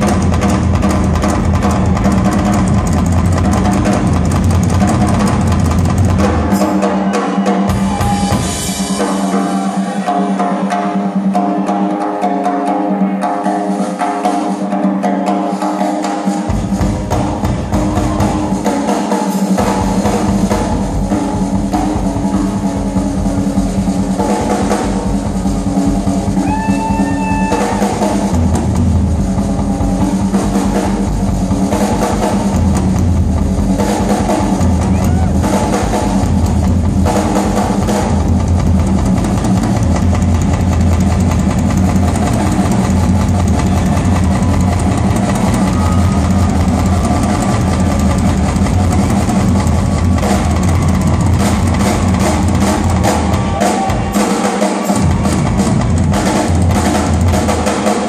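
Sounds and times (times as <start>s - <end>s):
rock drum solo: 0.0s - 58.0s.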